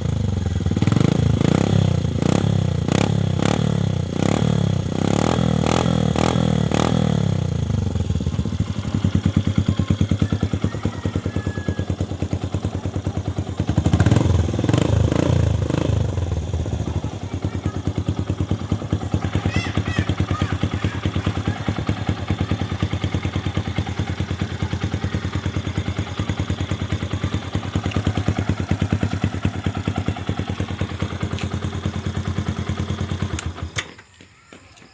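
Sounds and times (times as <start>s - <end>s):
motorcycle throttle blips: 0.0s - 34.1s
motorcycle engine idling: 0.0s - 34.5s.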